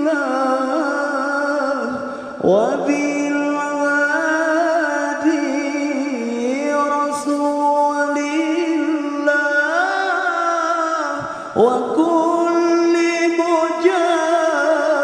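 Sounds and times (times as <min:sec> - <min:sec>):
man chanting melismatically: 0:00.0 - 0:15.0.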